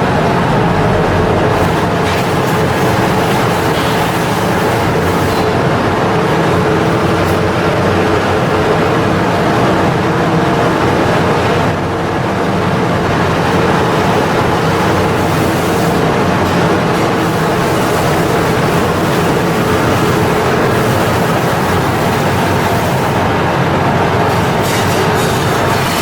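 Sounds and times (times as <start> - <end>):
large machinery droning: 0.0 - 26.0.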